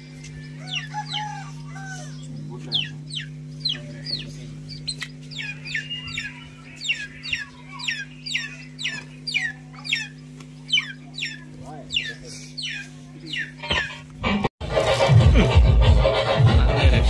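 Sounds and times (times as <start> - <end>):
bird chirping: 0.0 - 14.0
steady low hum: 0.0 - 17.0.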